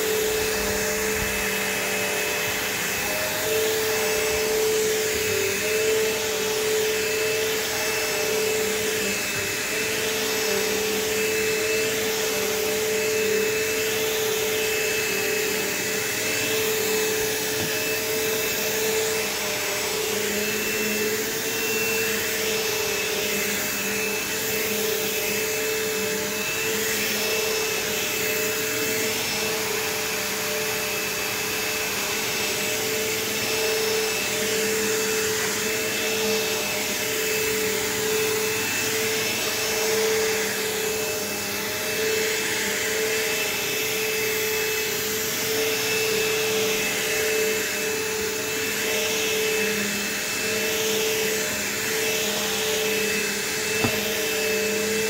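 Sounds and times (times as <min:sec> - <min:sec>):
vacuum cleaner running on carpet: 0:00.0 - 0:55.0.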